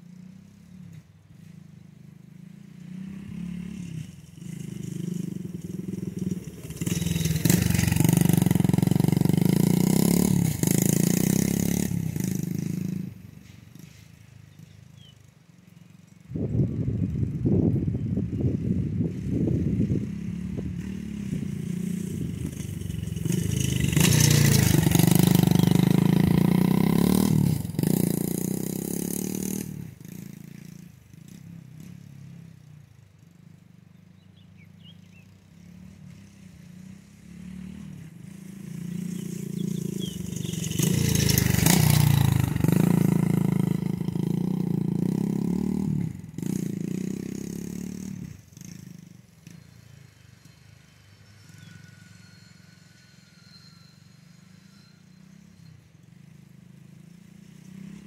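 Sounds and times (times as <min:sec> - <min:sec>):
dirt bike engine passing: 0:00.0 - 0:58.0.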